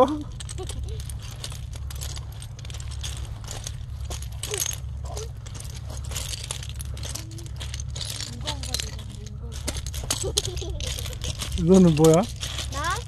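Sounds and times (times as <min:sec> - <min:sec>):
footsteps on pebbles: 0:00.0 - 0:13.0.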